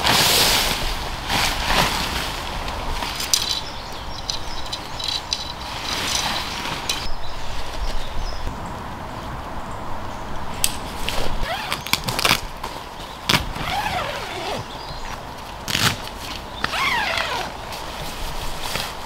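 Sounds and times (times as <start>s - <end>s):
nylon tent fly rustling: 0.0s - 8.4s, 10.8s - 19.0s.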